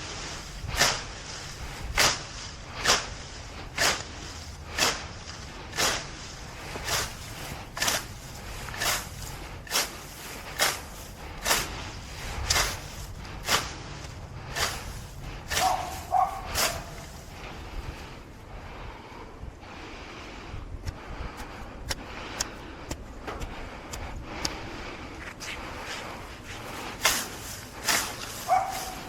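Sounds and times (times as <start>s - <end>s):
grass being plucked by hand: 0.0s - 18.0s, 20.8s - 29.0s.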